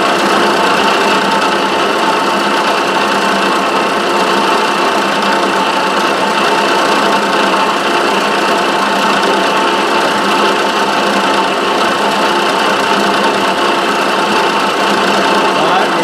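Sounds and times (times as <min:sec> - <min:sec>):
milling machine cutting plastic: 0:00.0 - 0:16.0.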